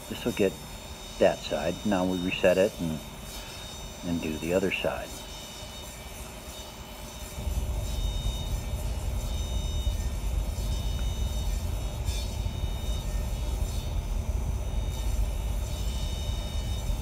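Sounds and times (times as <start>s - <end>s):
table saw running: 0.0s - 17.0s.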